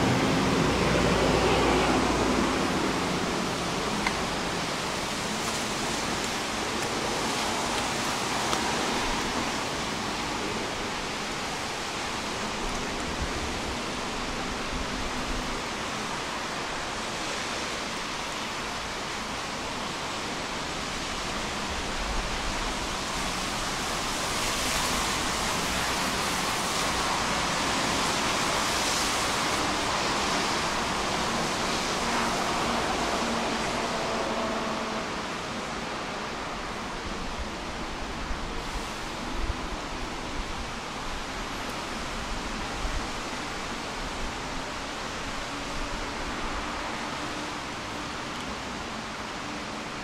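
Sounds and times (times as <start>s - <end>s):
light rain hissing: 0.0s - 50.0s.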